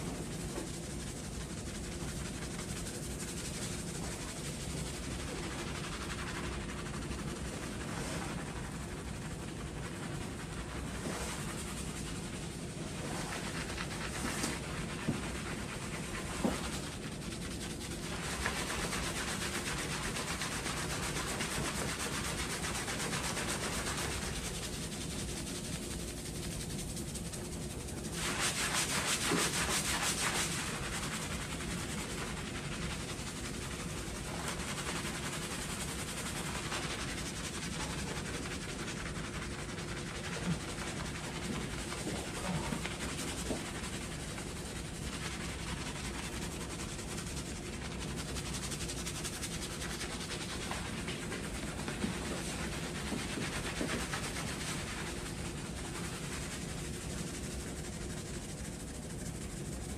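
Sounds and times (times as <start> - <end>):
hands scrubbing lathered scalp: 0.0 - 59.9.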